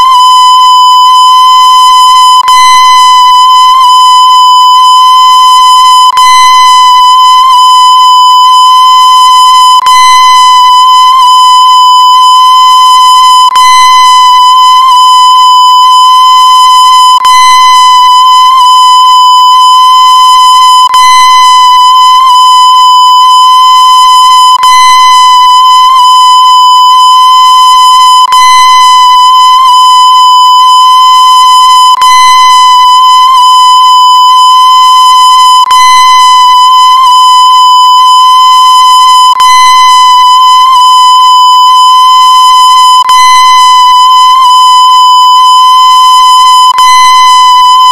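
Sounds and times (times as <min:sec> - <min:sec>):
harsh electronic beep tone: 0:00.0 - 0:47.9.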